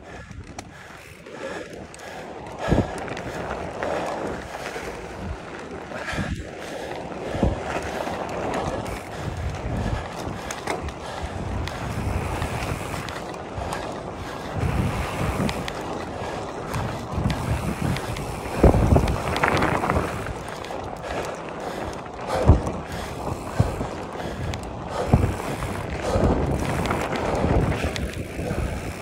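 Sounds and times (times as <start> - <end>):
steady rushing noise: 0.0 - 29.0
wind buffeting microphone: 0.0 - 29.0.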